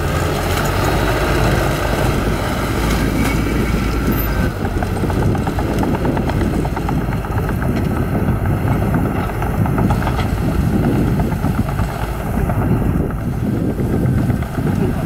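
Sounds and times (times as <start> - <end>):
dozer diesel engine rumbling: 0.0 - 15.0.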